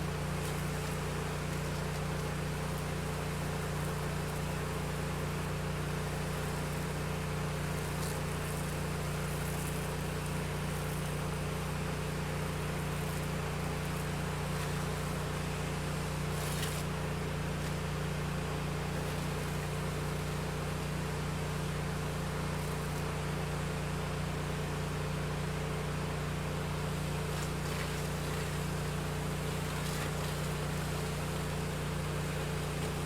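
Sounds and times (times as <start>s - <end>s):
pressure washer engine running: 0.0s - 33.0s.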